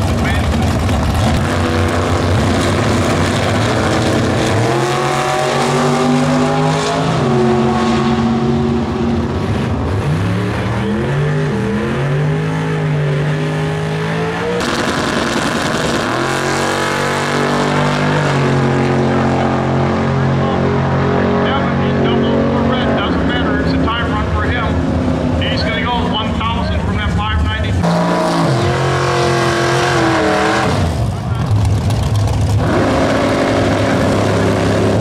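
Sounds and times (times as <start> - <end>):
car engine running steadily: 0.0 - 35.0
racing car engines revving: 0.0 - 35.0.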